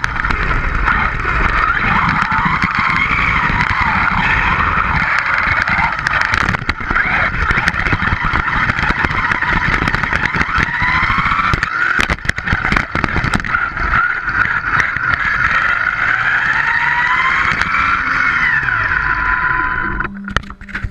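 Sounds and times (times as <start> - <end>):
electric motor whine: 0.0 - 20.9
tyres rumbling on asphalt: 0.0 - 20.9.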